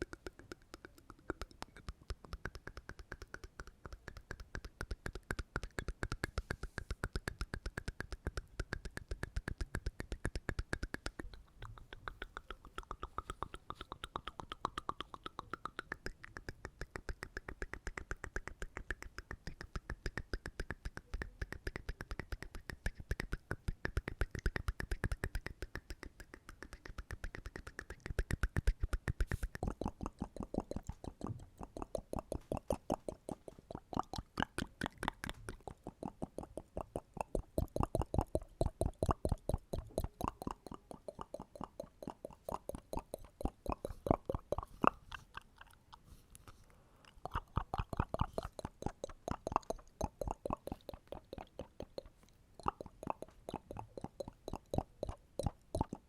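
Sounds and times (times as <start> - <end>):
mouth clicks: 0.0 - 56.0.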